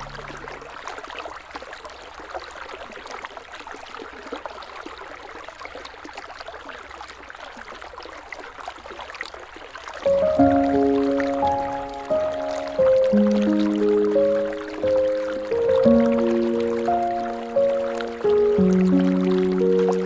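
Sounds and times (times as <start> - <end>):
river water flowing and babbling: 0.0 - 20.0.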